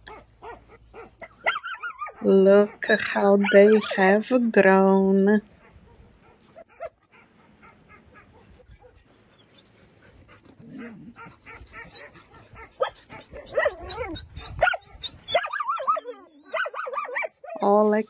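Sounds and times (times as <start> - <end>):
dogs barking and yelping: 0.0 - 4.2, 5.5 - 17.7.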